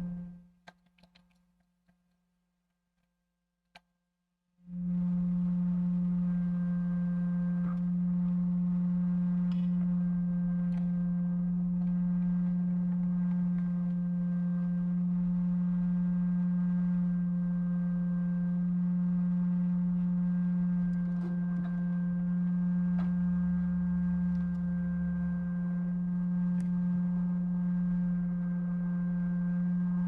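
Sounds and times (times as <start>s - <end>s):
steady low hum: 4.7s - 30.0s.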